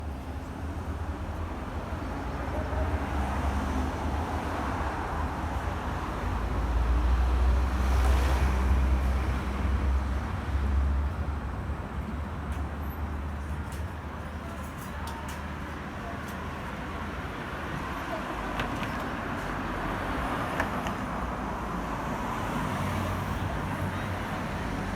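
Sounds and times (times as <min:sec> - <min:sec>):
traffic rumble: 0:00.0 - 0:24.9.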